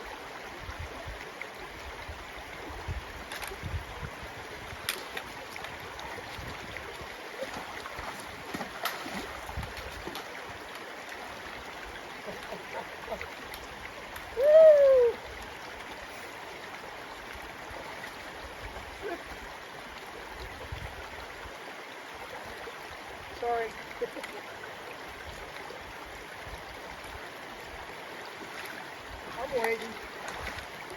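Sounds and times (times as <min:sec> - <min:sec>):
creek water rushing over rocks: 0:00.0 - 0:30.9.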